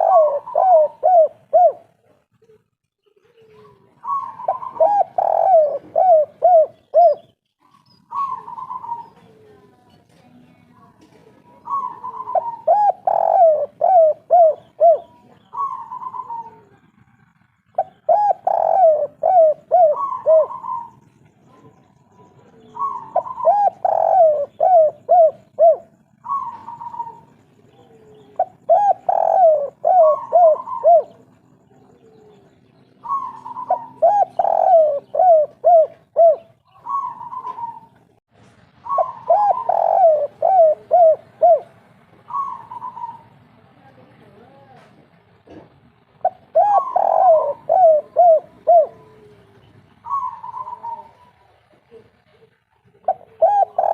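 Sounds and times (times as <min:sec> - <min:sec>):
dove cooing: 0:00.0 - 0:09.8, 0:11.1 - 0:38.2, 0:38.8 - 0:43.6, 0:46.2 - 0:53.9.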